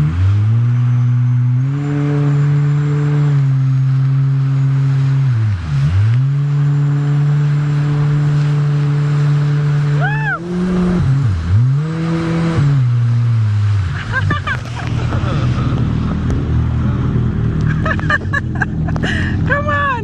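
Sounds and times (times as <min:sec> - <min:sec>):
wind and spray: 0:00.0 - 0:19.7
jet ski engine revving: 0:00.0 - 0:20.0.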